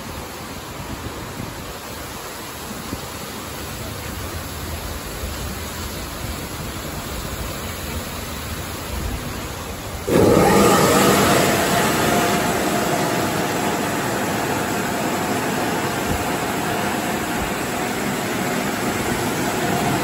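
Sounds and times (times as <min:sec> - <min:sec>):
high-pressure water jets hissing: 0:00.0 - 0:20.0.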